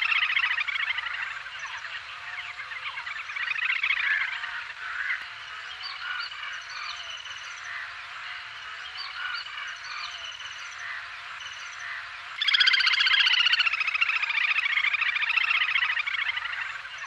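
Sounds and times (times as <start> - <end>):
grebes calling: 0.0 - 17.0.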